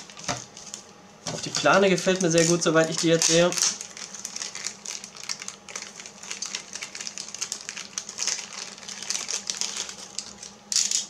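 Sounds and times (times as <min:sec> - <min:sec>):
plastic bag crinkling: 0:01.4 - 0:11.0.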